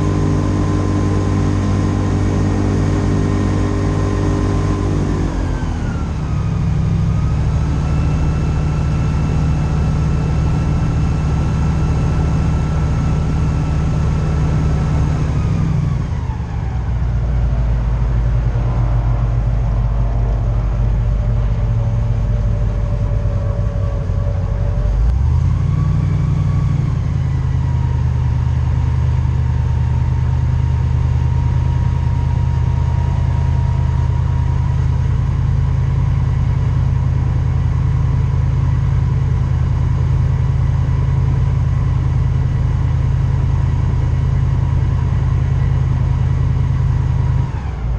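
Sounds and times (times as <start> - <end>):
airboat engine and propeller drone: 0.0 - 47.9.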